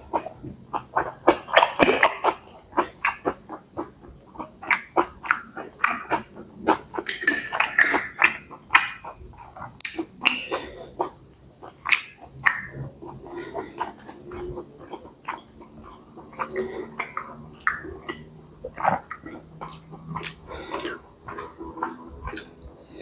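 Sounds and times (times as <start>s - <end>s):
chewing and slurping noodles: 0.0s - 23.0s
wet mouth clicks and smacks: 0.0s - 23.0s.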